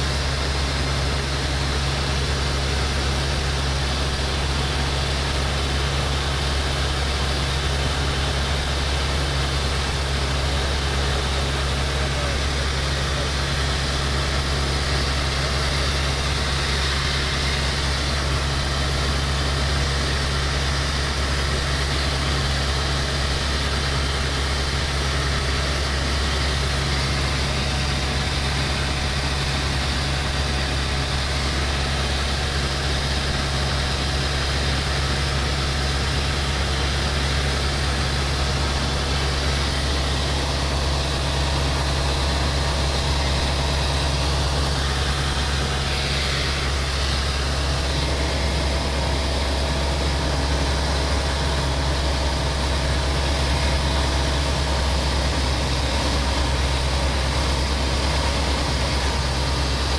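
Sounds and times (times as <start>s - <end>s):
propeller airplane engine drone: 0.0s - 59.9s.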